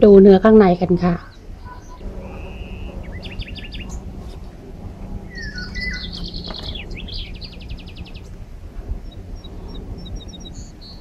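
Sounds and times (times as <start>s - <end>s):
steady low hum: 0.0s - 11.0s
small songbirds chirping and singing: 0.9s - 11.0s.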